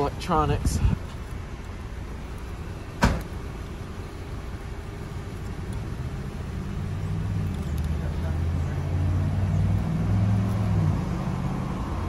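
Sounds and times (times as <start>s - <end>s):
car cabin low rumble: 0.0s - 9.9s.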